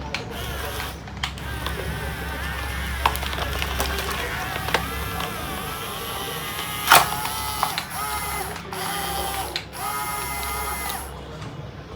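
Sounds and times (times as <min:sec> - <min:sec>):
small motor whining: 0:00.0 - 0:11.4.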